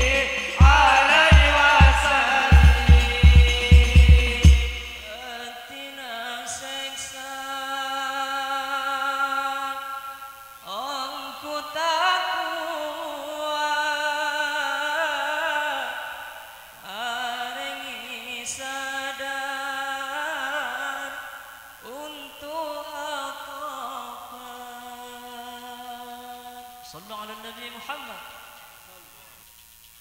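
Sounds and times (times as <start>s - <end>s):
person chanting: 0.0s - 29.4s.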